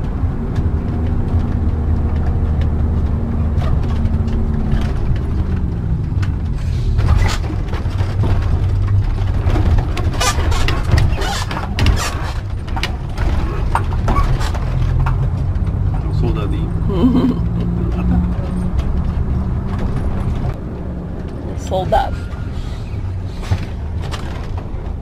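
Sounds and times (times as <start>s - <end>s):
clatters and knocks: 0.0s - 16.3s, 17.6s - 21.6s, 22.2s - 25.0s
motorhome engine: 0.0s - 25.0s
road noise: 0.0s - 25.0s.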